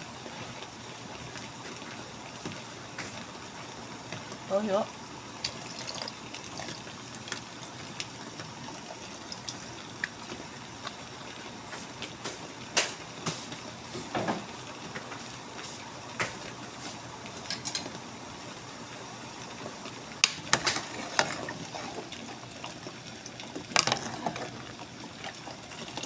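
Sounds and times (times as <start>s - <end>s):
sauce simmering and bubbling: 0.0s - 26.0s.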